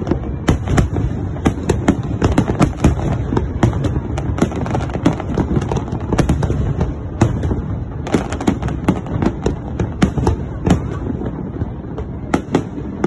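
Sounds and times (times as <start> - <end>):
firework bursts and crackles: 0.0 - 13.0.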